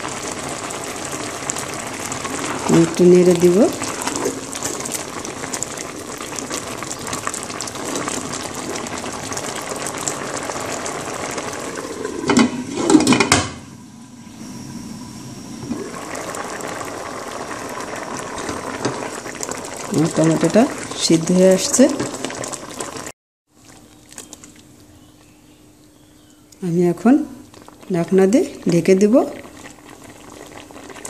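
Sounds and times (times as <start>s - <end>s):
saucepan bubbling: 0.0s - 31.0s.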